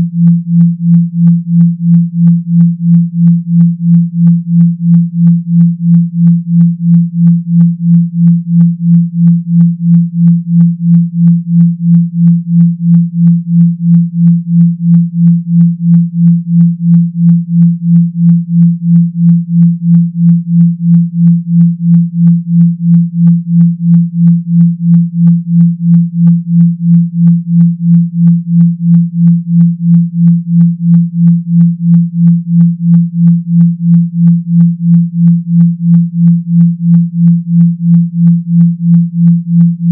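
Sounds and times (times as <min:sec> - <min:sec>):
pulsing deep sine tone buzz: 0:00.0 - 0:39.9.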